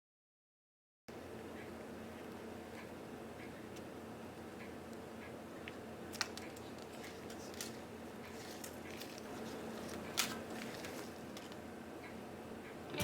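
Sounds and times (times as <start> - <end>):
steady low hum: 1.1 - 13.0.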